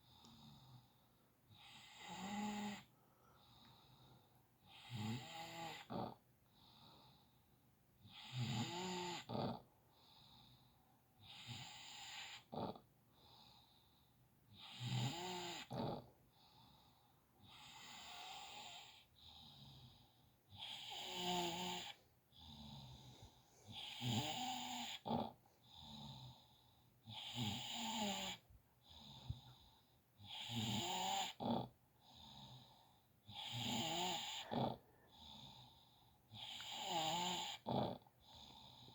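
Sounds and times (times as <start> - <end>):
rhythmic snoring: 0.0 - 7.3, 8.0 - 10.6, 11.2 - 13.9, 14.5 - 38.9.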